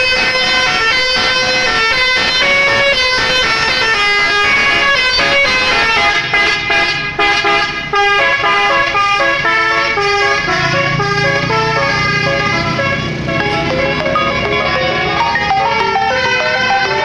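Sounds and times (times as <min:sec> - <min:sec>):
bus horn melody: 0:00.0 - 0:17.0.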